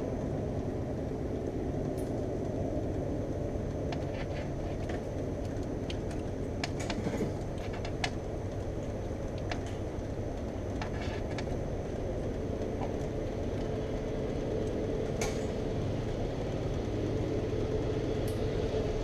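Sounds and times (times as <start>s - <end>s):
distant train rumble: 0.0s - 19.0s.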